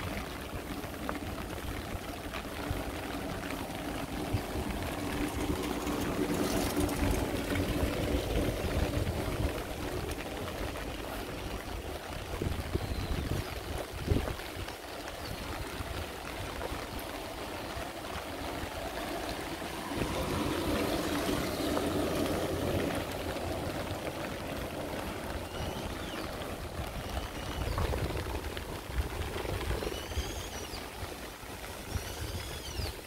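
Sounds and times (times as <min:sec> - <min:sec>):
steady rain: 0:00.0 - 0:33.0
water running and trickling: 0:00.0 - 0:33.0.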